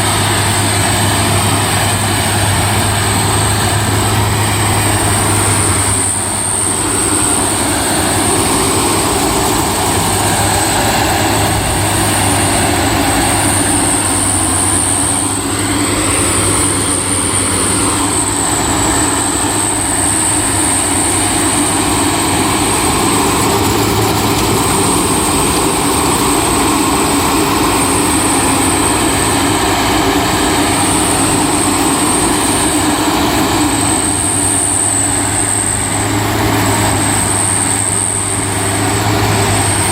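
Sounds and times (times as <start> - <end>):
combine harvester engine hum: 0.0 - 39.9
high wavering whine: 0.0 - 39.9.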